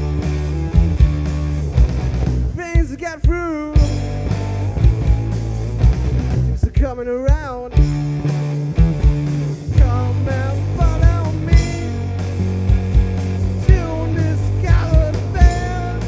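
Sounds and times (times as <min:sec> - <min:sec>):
blues-rock band playing: 0:00.0 - 0:16.0
wavering lead guitar line: 0:00.0 - 0:16.0.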